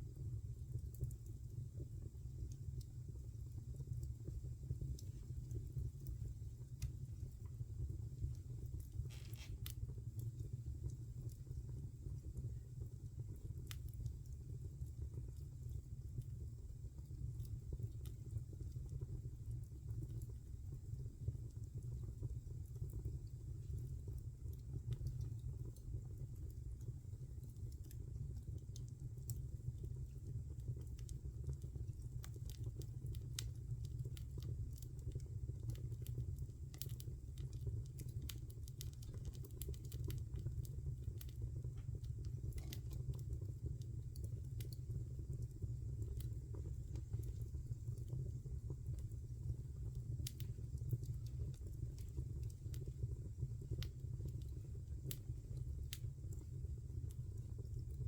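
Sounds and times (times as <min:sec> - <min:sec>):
fire flames rumbling: 0:00.0 - 0:58.0
fire crackling and popping: 0:00.1 - 0:58.0.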